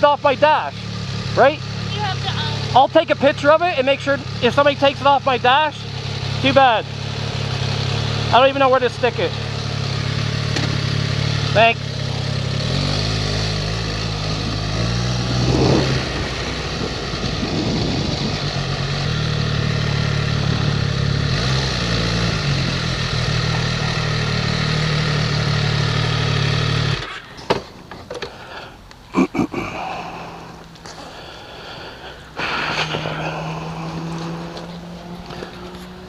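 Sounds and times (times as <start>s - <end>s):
motorcycle engine running: 0.0s - 27.3s, 30.1s - 36.0s.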